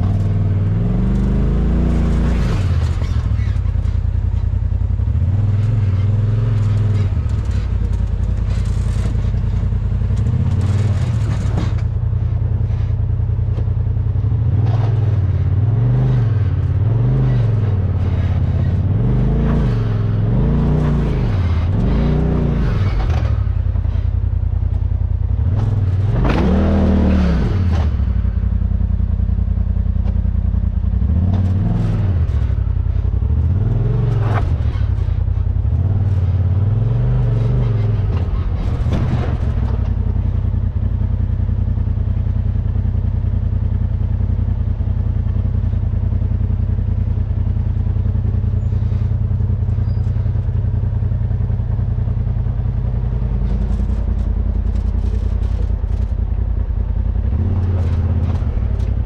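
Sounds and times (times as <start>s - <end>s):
vehicle engine revving: 0.0s - 12.0s, 14.2s - 30.2s, 30.8s - 44.2s, 45.0s - 59.0s
engine idling: 0.0s - 26.2s, 38.0s - 59.0s.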